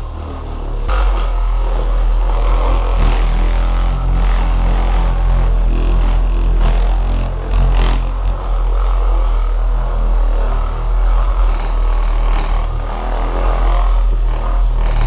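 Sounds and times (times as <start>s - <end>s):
electric polisher running: 0.0s - 15.0s.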